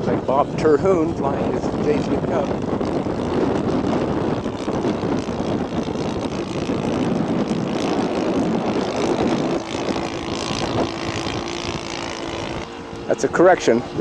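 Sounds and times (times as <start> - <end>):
model airplane propeller drone: 0.0 - 14.0
steady hum: 0.0 - 14.0.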